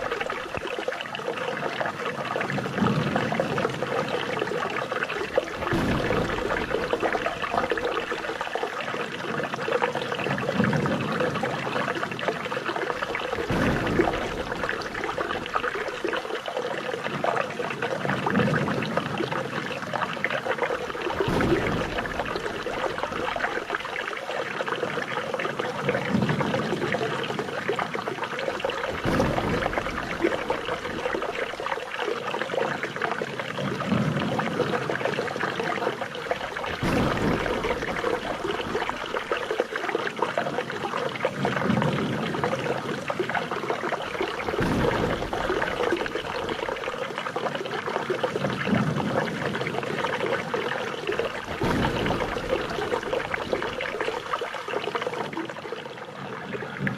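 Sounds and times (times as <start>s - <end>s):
water trickling and splashing: 0.0s - 56.9s.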